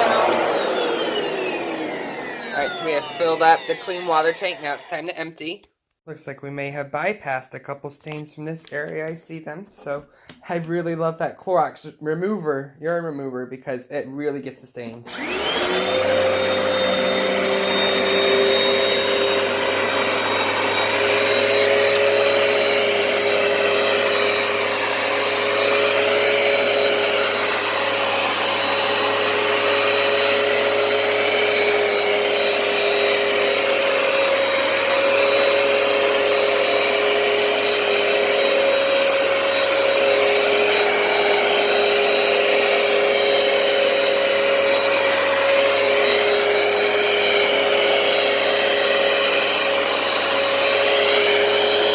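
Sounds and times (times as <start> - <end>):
carpet cleaner motor whining: 0.0 - 5.3, 15.1 - 51.9
suction noise: 0.0 - 5.4, 15.0 - 51.9.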